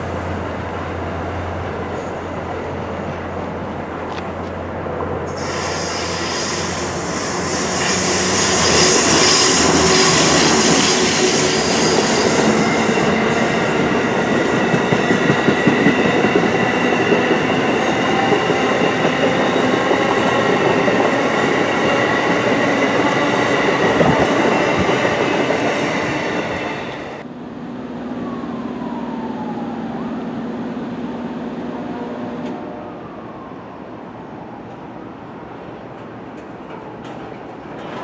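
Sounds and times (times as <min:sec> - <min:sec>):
train cars rumbling past: 0:00.0 - 0:38.0.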